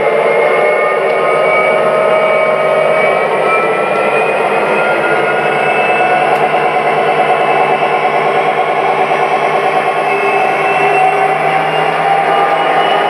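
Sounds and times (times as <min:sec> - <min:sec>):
model train diesel engine sound: 0:00.0 - 0:13.0.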